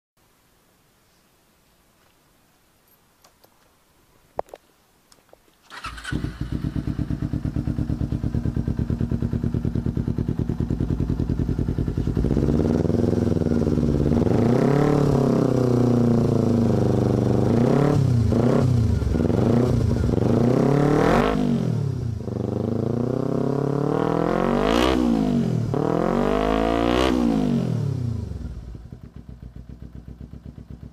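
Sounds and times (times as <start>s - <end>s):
motorcycle engine revving: 5.7s - 30.9s.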